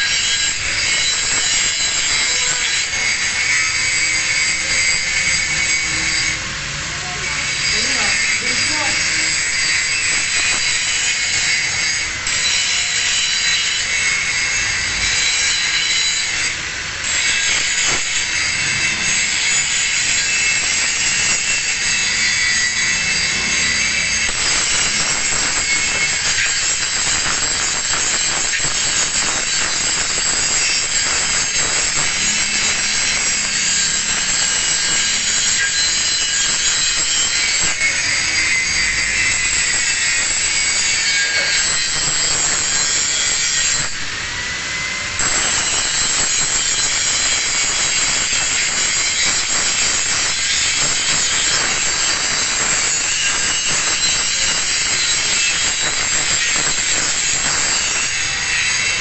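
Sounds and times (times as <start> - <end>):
angle grinder grinding steel: 0.0 - 59.0.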